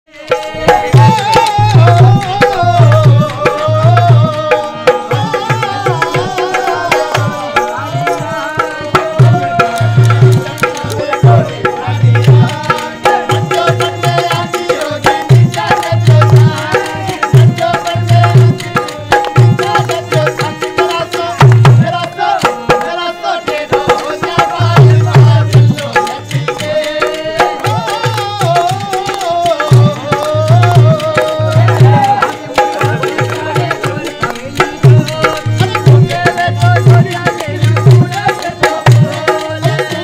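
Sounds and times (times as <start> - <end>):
folk melody: 0.2 - 40.0
hand drum beating a rhythm: 0.2 - 40.0.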